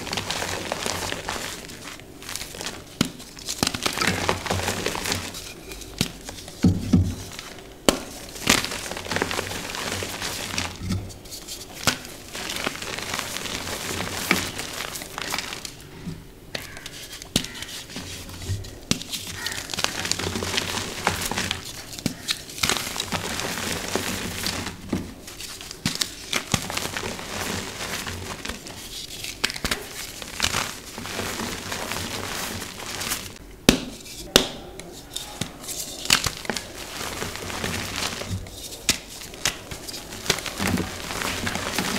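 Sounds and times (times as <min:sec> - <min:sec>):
hands crushing chalk: 0:00.0 - 0:15.8, 0:16.5 - 0:41.9.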